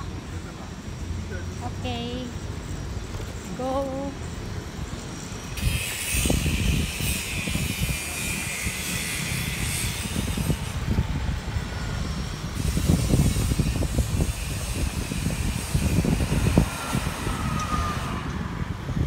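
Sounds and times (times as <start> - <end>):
street traffic: 0.0 - 19.0
wind rumbling on microphone: 1.8 - 19.0.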